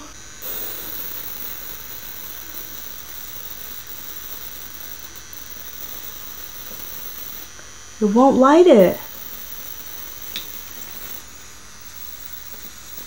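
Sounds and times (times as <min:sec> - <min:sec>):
electric arc buzzing: 0:00.0 - 0:13.0
small fan whirring: 0:00.0 - 0:13.0.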